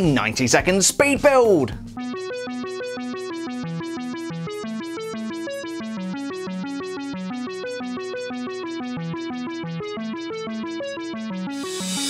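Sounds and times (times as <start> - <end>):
synthesizer arpeggio: 1.8 - 12.0.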